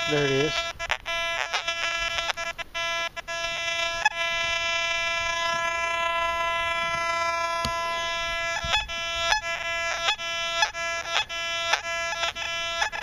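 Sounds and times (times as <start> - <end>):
metal detector beeps: 0.0 - 13.0
metal detector steady tone: 0.0 - 13.0.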